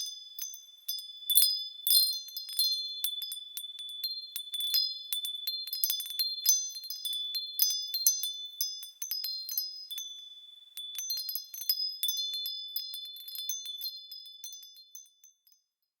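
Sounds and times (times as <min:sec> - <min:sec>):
wind chimes ringing: 0:00.0 - 0:10.2, 0:10.8 - 0:15.7.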